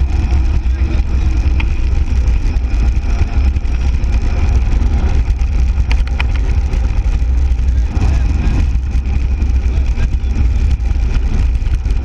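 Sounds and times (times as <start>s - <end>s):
bike clicks: 0.0s - 12.0s
bike tyres rolling on asphalt: 0.0s - 12.0s
wind buffeting microphone: 0.0s - 12.0s.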